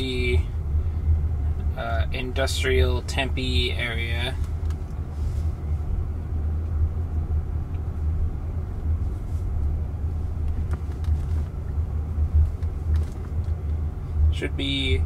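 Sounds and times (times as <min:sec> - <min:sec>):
road and tyre rumble in car: 0:00.0 - 0:15.0.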